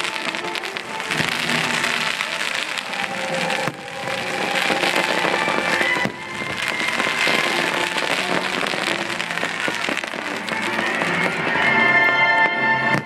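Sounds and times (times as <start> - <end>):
fireworks crackling and popping: 0.0 - 13.0
music soundtrack: 0.0 - 13.0.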